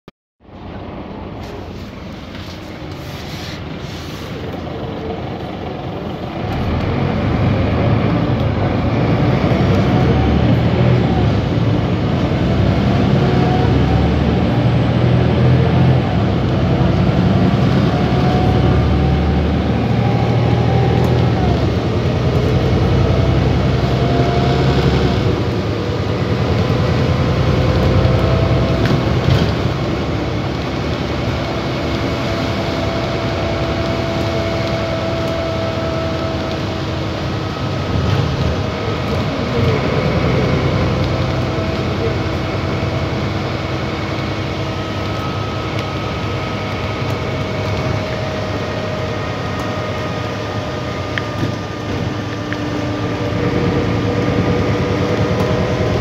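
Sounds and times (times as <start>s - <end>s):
bus diesel engine idling: 0.4s - 56.0s.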